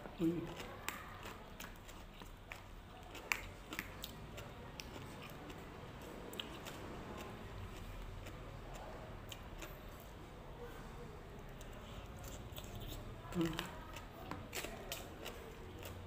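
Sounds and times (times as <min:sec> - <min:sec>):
person chewing: 0:00.1 - 0:10.1, 0:11.4 - 0:16.0.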